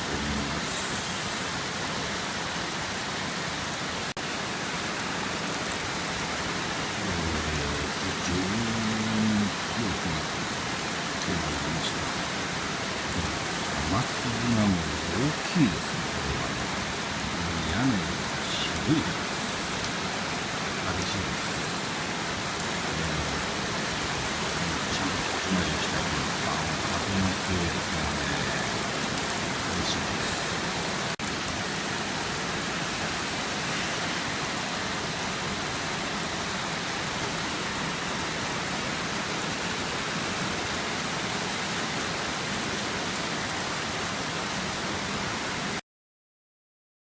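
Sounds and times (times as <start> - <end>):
rain drumming on a roof: 0.0 - 45.8.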